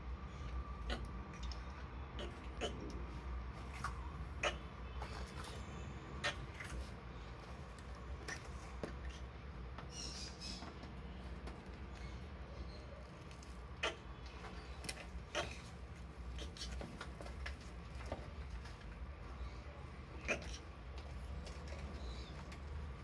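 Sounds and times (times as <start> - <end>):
tortoises clicking: 0.4 - 23.0.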